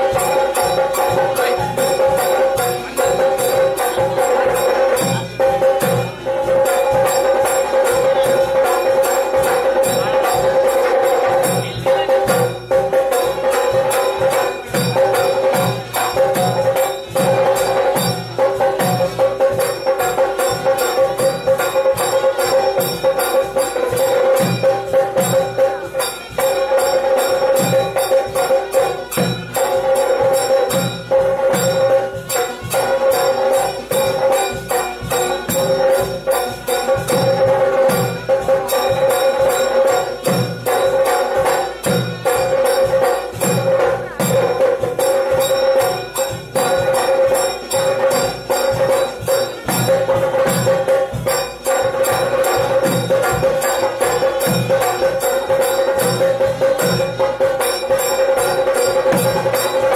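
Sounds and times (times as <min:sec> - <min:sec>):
drums beating steady rhythm: 0:00.0 - 0:59.9
metallic bells ringing: 0:00.0 - 0:59.9.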